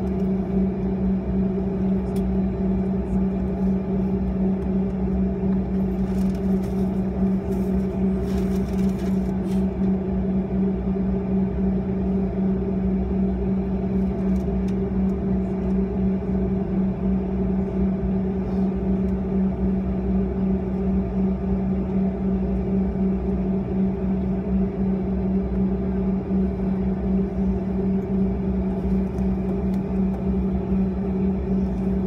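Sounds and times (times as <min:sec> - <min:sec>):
jet engines idling: 0:00.0 - 0:32.0.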